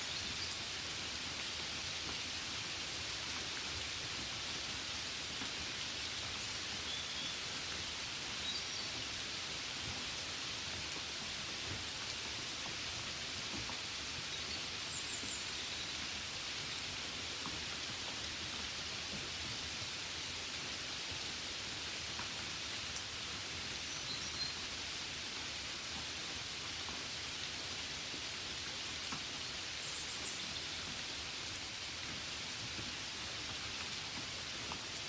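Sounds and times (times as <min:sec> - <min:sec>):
rain falling on a window: 0:00.0 - 0:35.0.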